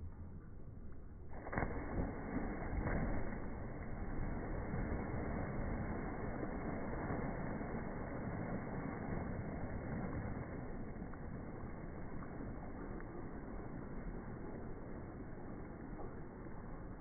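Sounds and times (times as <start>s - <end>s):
slowed-down splash and churning water: 0.0s - 17.0s.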